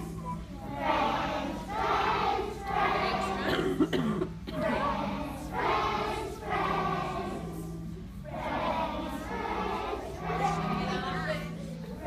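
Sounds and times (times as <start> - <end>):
children singing in unison: 0.0 - 12.0.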